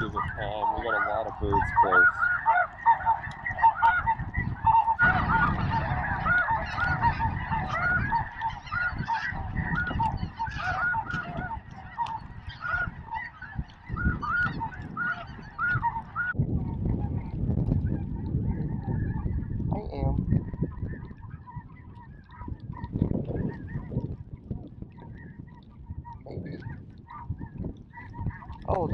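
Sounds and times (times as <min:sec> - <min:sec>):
snow geese honking: 0:00.0 - 0:16.4, 0:17.0 - 0:28.9.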